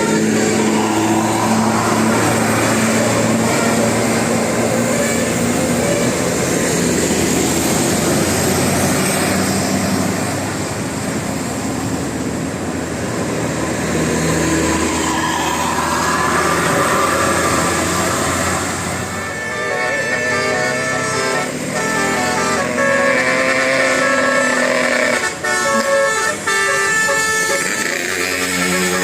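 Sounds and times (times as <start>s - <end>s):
large vehicle engine and tyres: 0.0s - 29.0s.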